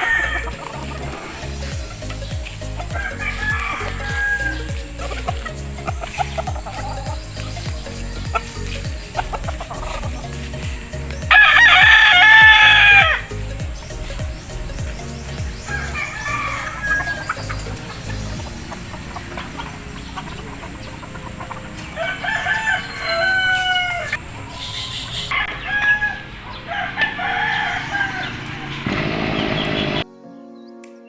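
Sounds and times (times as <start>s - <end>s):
chicken clucking: 0.0s - 28.9s
roosters crowing: 0.0s - 30.0s.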